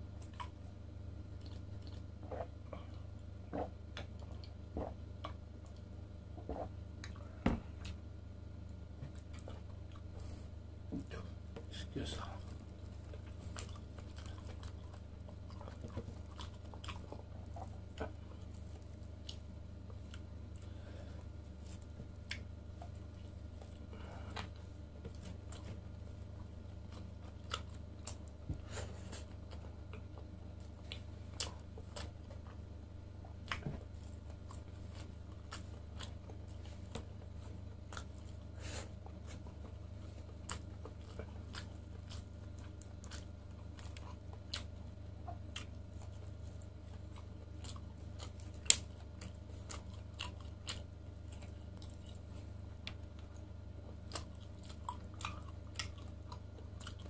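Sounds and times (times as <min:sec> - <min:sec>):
steady low hum: 0:00.0 - 0:57.0
chewing and biting meat: 0:00.1 - 0:08.0, 0:08.7 - 0:57.0.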